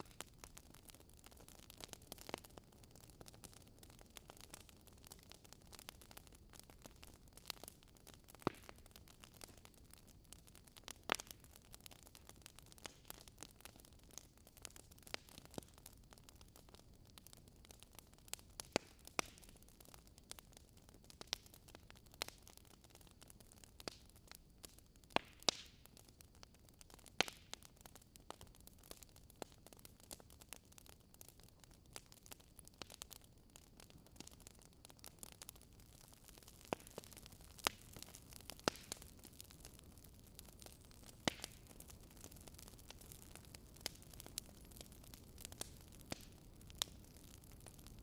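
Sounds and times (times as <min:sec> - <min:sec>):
campfire crackling: 0:00.0 - 0:48.0.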